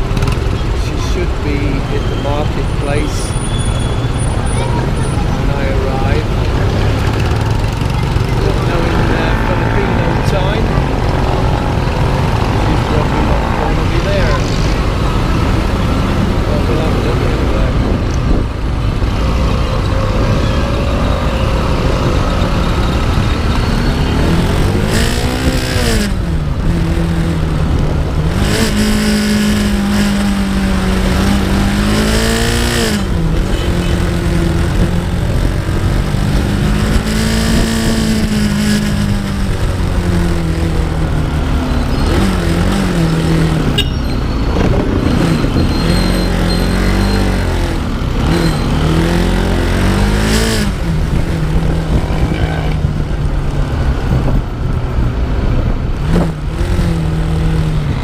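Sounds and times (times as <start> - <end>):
motorbike engine revving: 0.0 - 58.0
road noise rumble: 0.0 - 58.0.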